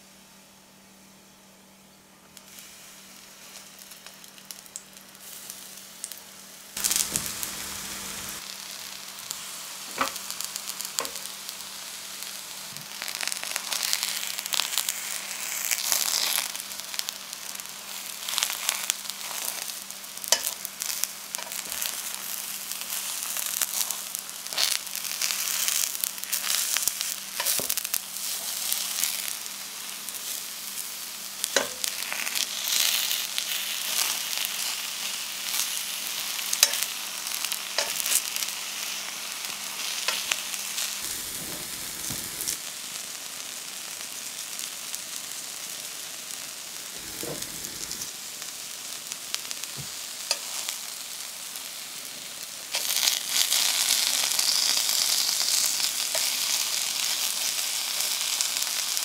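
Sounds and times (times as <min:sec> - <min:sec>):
vegetables sizzling in hot oil: 0:02.3 - 0:59.0.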